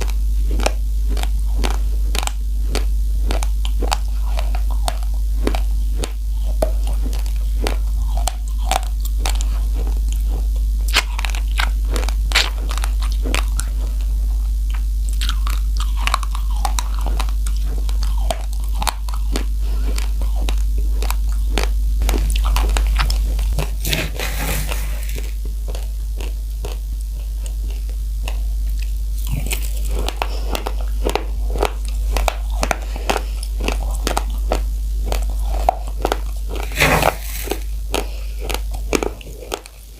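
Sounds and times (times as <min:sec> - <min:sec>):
rice grains crunching: 0:00.0 - 0:39.9
steady low hum: 0:00.0 - 0:39.9.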